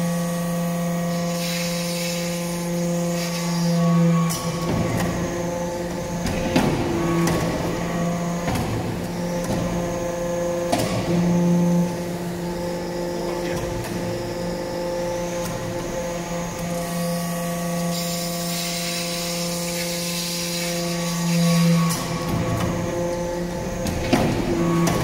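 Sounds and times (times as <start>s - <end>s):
hydraulic power unit humming: 0.0s - 25.0s.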